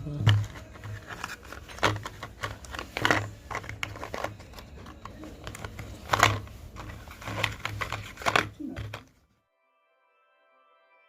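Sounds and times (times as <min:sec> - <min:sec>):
hands clicking and scraping: 0:00.0 - 0:09.2.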